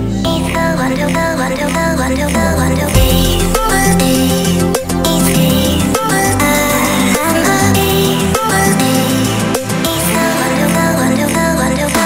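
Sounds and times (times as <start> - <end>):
electronic music with beat and bass: 0.0 - 12.0.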